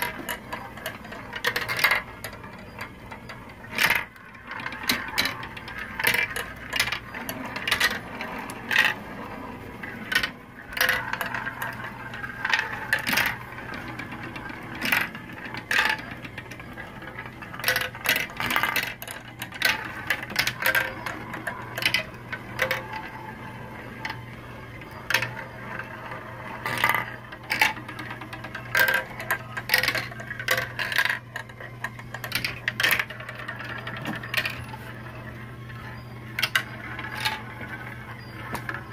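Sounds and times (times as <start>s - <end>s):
low steady hum: 0.0s - 38.9s
marbles clattering through plastic track: 0.0s - 38.9s.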